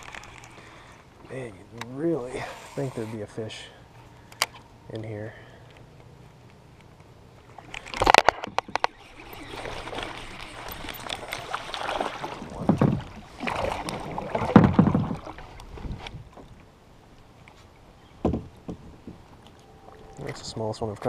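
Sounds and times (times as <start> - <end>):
water splashing and sloshing: 0.0 - 4.6, 7.4 - 21.0.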